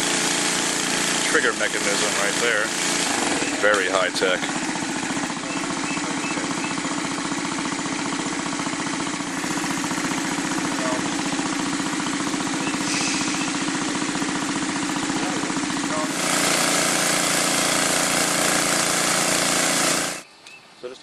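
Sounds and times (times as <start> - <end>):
air compressor running: 0.0 - 20.3.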